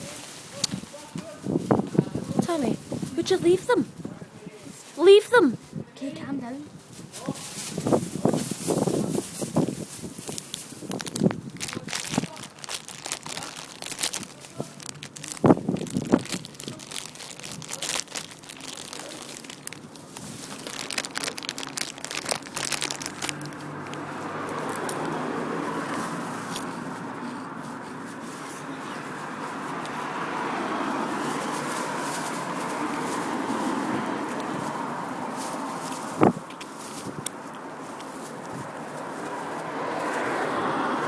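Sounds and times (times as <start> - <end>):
traffic drone: 0.0 - 41.0
plastic bags crinkling: 6.9 - 40.9.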